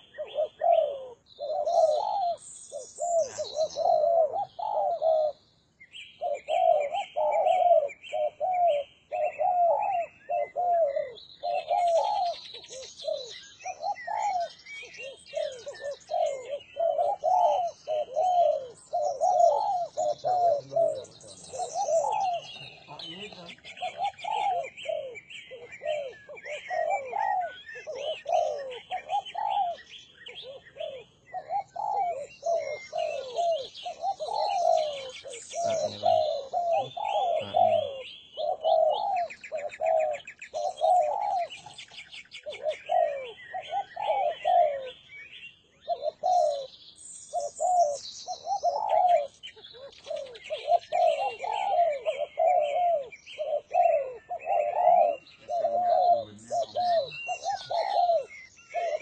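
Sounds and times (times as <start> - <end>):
doves cooing: 0.0 - 5.6, 6.2 - 59.0
small birds chirping: 0.0 - 59.0.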